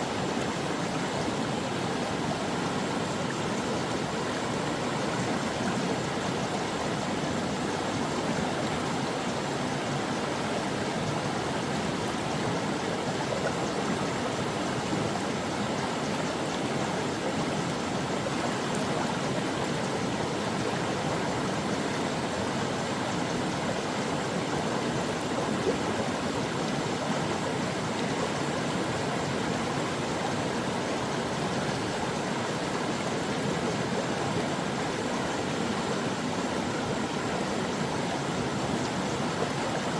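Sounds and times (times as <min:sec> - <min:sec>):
brook water running: 0:00.0 - 0:39.9.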